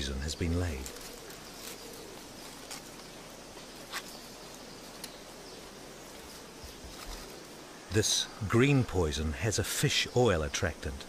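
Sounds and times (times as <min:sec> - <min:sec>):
insect hiss: 0:00.0 - 0:11.0.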